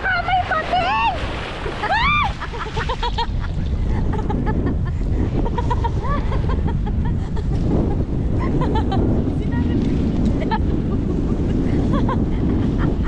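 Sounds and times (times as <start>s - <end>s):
boat engine rumble: 0.0s - 13.0s
wind buffeting microphone: 0.0s - 13.0s.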